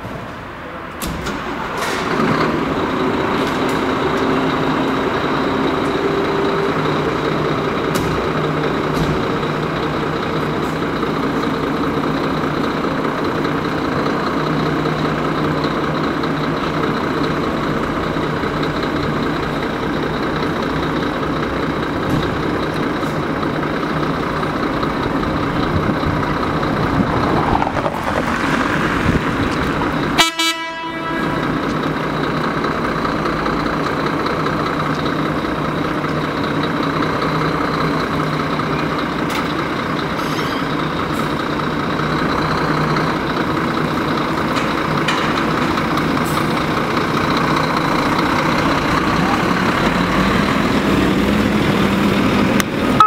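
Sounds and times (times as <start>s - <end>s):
diesel engine idling: 0.0s - 53.0s.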